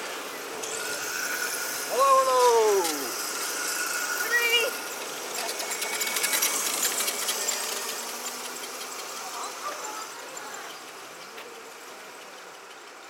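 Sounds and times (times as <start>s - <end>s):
electric scooters whirring: 0.0s - 13.0s.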